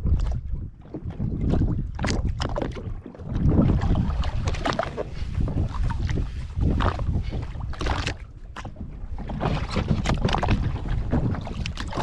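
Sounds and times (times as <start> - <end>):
water slapping against hull: 0.0 - 12.0
wind buffeting microphone: 0.0 - 12.0.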